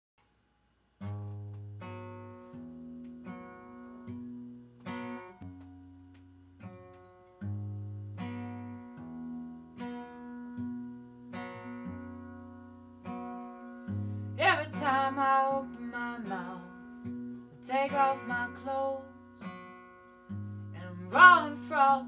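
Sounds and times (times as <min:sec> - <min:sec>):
acoustic guitar strumming: 0:01.0 - 0:22.0.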